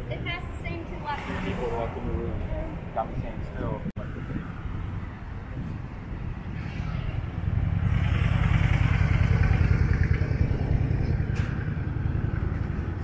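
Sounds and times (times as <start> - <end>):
vehicle passing by: 0.1 - 13.0.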